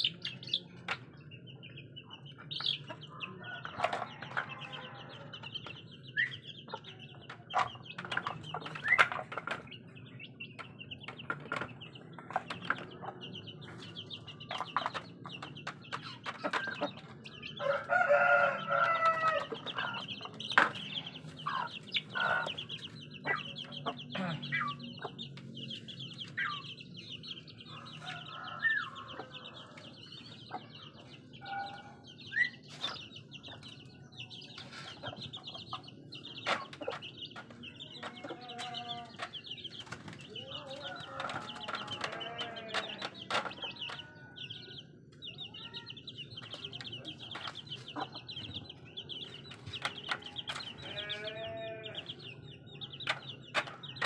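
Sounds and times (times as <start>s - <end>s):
chicks peeping: 0.0s - 54.0s
hen clucking: 2.0s - 44.7s, 45.3s - 54.0s.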